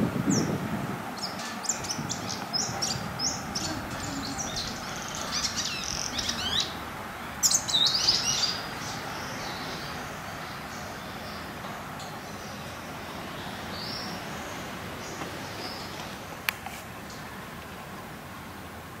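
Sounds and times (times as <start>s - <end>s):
outdoor hiss: 0.0s - 19.0s
small birds chirping: 0.3s - 0.6s, 1.2s - 17.3s.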